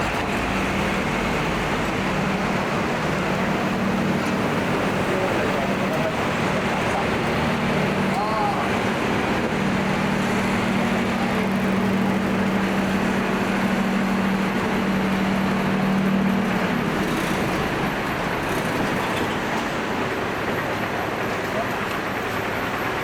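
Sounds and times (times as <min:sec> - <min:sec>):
city street traffic: 0:00.0 - 0:23.0
low vehicle engine hum: 0:00.0 - 0:23.0.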